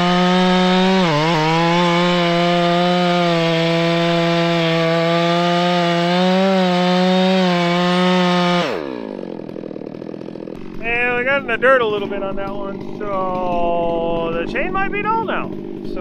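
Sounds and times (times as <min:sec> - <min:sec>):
chainsaw cutting stump: 0:00.0 - 0:16.0.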